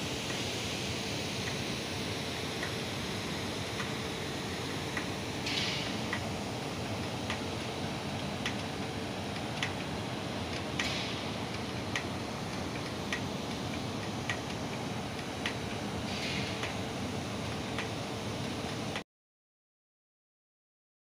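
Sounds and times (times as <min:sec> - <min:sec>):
industrial machinery noise: 0:00.0 - 0:19.0.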